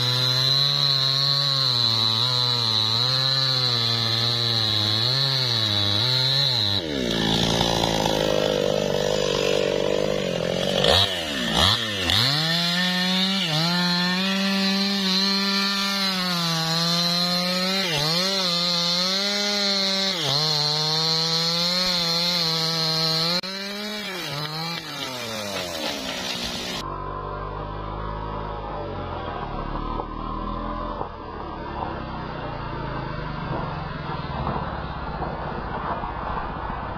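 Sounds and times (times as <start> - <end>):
chainsaw cutting wood: 0.0 - 36.2.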